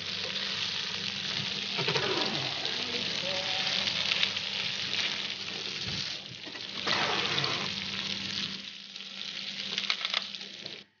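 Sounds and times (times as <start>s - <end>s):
meat sizzling on grill pan: 0.0s - 10.8s.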